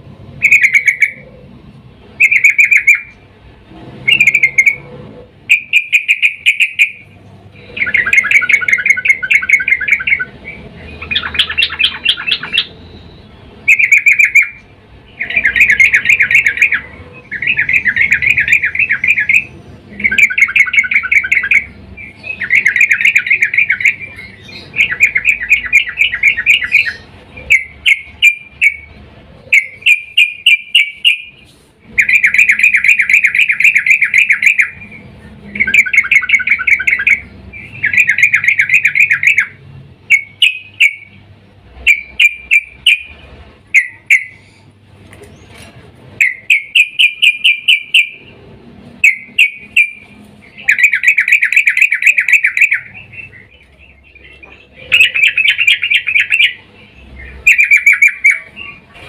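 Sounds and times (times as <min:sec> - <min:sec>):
bird chattering calls: 0:00.4 - 0:01.5, 0:02.1 - 0:03.3, 0:04.0 - 0:59.0.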